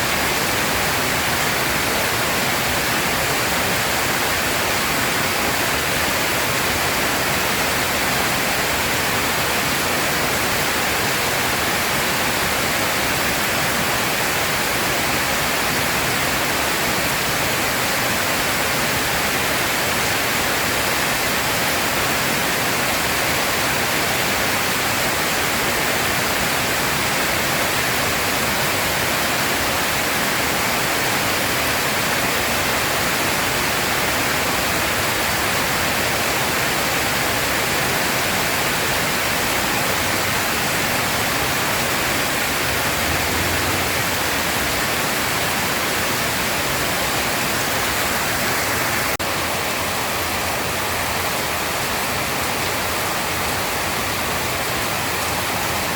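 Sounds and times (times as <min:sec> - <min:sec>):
dense rain hiss: 0:00.0 - 0:55.9.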